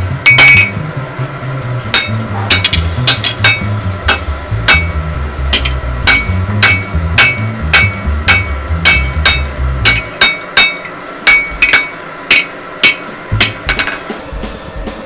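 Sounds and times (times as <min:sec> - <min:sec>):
hammer striking steel on anvil: 0:00.0 - 0:00.9, 0:01.8 - 0:14.2.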